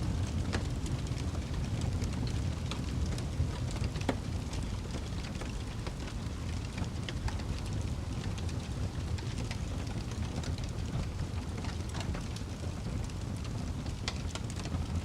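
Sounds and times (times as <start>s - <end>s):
fire crackles and pops: 0.0s - 15.0s
fire rumbling: 0.0s - 15.0s.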